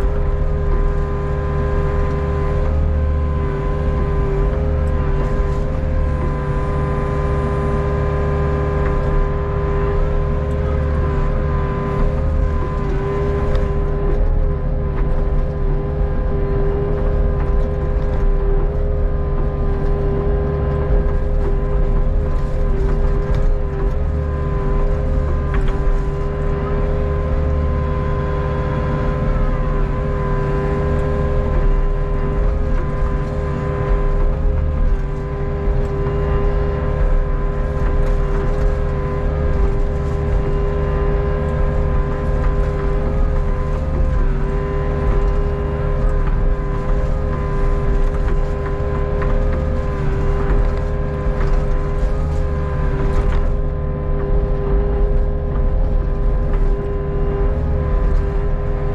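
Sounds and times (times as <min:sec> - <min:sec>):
excavator diesel engine running: 0:00.0 - 0:58.9
steady whine: 0:00.0 - 0:58.9.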